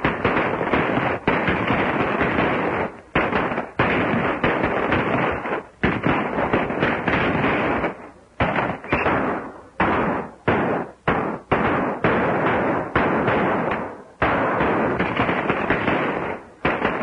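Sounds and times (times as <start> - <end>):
gunshots with echoing tails: 0.0 - 17.0.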